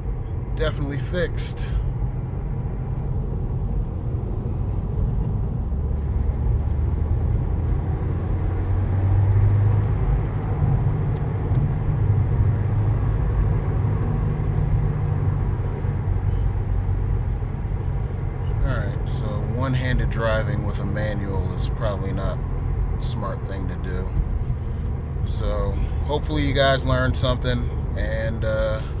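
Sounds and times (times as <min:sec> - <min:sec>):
car engine while driving: 0:00.0 - 0:29.0
road rumble: 0:00.0 - 0:29.0.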